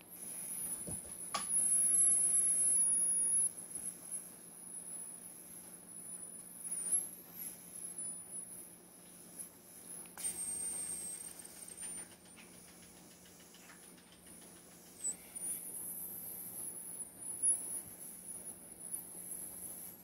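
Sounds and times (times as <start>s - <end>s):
high-pitched wavering whine: 0.0s - 20.0s
steady hiss: 0.0s - 20.0s.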